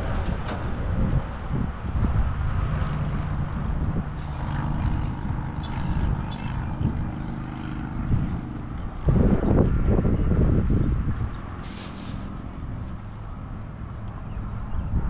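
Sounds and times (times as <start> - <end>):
engine drone: 0.0 - 15.0
wind rumbling on microphone: 0.0 - 15.0.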